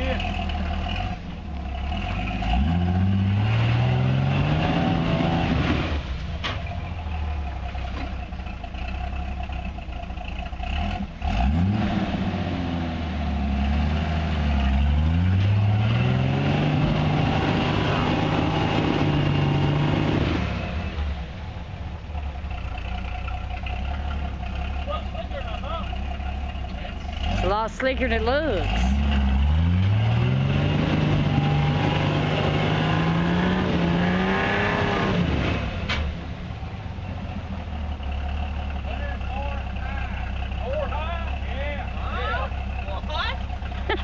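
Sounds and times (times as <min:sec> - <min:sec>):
off-road vehicle engine revving: 0:00.0 - 0:44.0.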